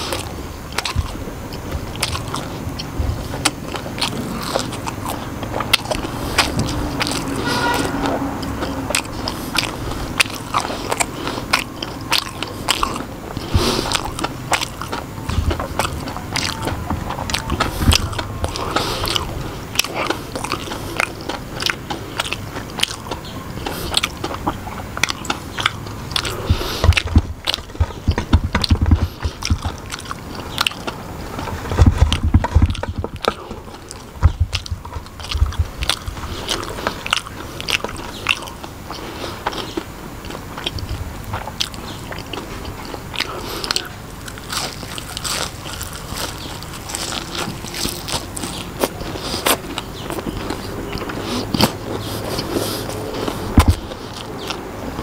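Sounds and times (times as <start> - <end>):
crunching and chewing crispy food: 0.0 - 55.0.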